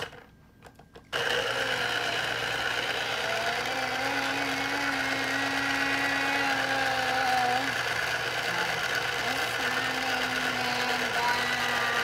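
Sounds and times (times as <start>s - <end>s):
citrus juicer motor whir: 0.0s - 0.3s, 1.1s - 12.0s.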